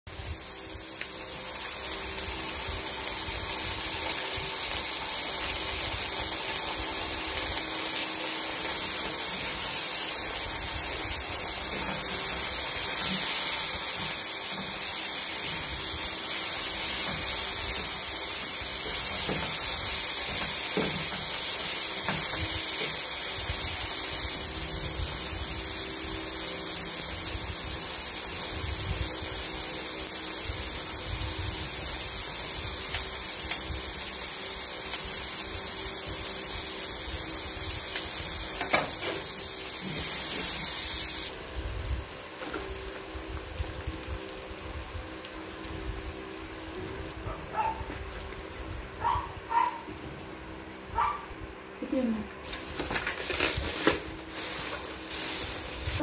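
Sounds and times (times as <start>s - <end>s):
food sizzling in frying pan: 0.1s - 51.4s, 52.4s - 56.0s.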